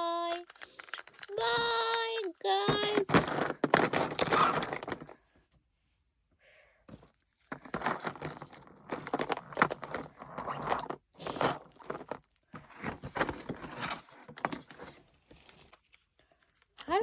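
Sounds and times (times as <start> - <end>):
plastic crinkling and clicking: 0.2 - 5.2, 6.9 - 17.0.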